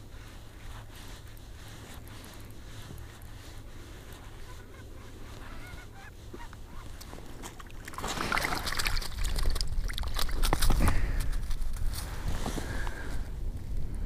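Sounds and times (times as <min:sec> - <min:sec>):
crunching and scuffing in snow: 0:00.0 - 0:08.6, 0:10.4 - 0:13.6.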